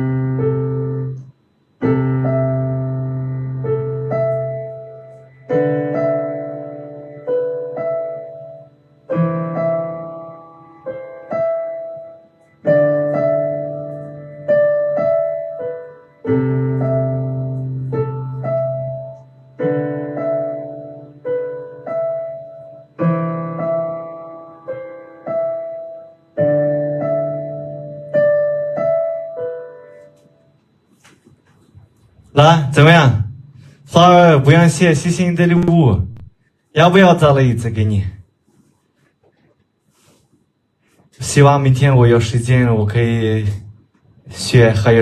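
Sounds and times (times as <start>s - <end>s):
slow piano piece: 0.0s - 45.0s.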